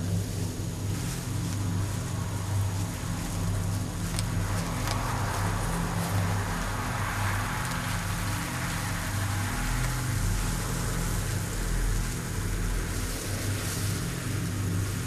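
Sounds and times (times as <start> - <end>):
low steady hum: 0.0 - 15.0
steady rain: 0.0 - 15.0.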